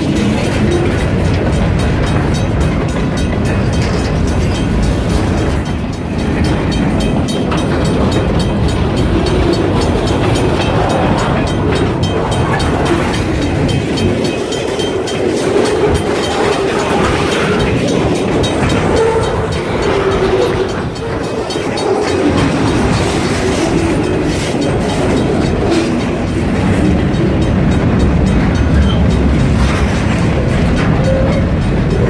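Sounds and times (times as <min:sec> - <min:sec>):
freight train rumble: 0:00.0 - 0:32.0
wheels clicking over rail joints: 0:00.0 - 0:32.0.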